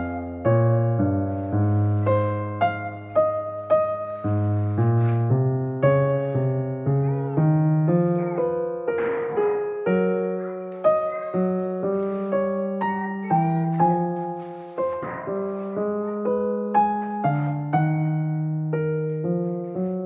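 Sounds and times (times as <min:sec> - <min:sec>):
keyboard music: 0:00.0 - 0:20.0.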